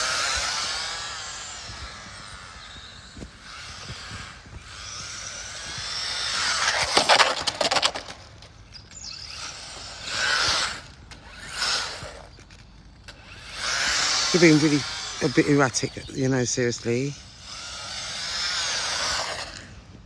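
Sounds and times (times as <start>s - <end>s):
rc cars motors whining by: 0.0s - 20.0s.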